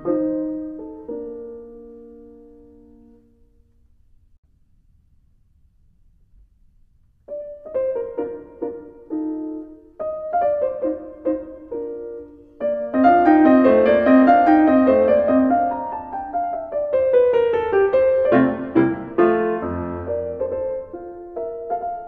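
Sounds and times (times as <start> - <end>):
piano music: 0.0 - 3.8, 7.3 - 22.0.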